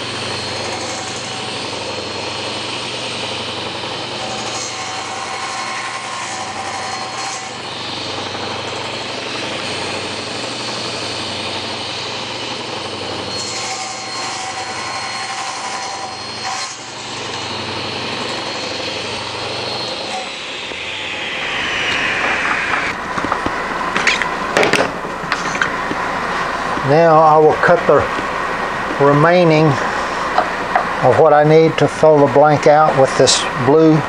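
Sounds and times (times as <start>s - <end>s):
table saw whine: 0.0s - 34.0s.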